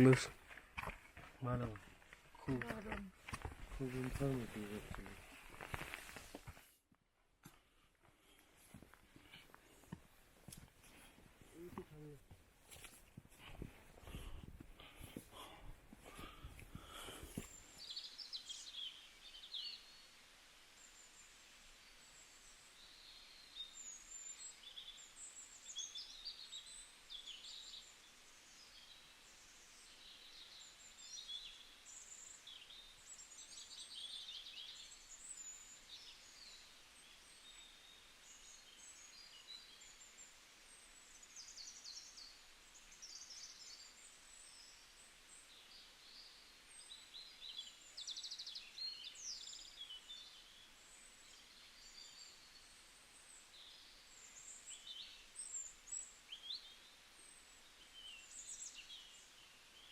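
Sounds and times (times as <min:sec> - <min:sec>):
small songbirds chirping: 0:00.0 - 0:06.3, 0:07.6 - 0:59.9
steady outdoor hiss: 0:00.0 - 0:06.8, 0:07.4 - 0:59.9.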